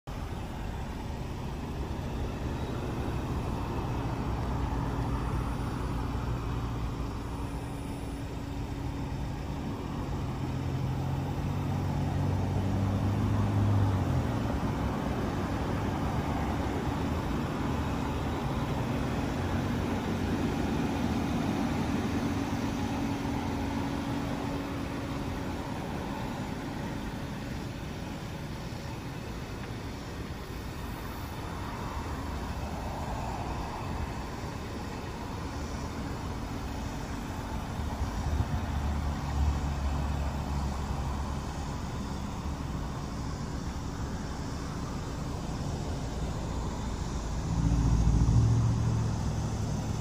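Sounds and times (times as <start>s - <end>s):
steady engine hum: 0.0s - 50.0s
low engine drone: 0.1s - 50.0s.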